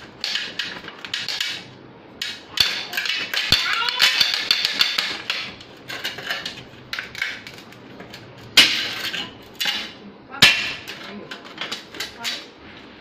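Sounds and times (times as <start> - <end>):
ladder parts knocking and clicking: 0.0 - 12.5.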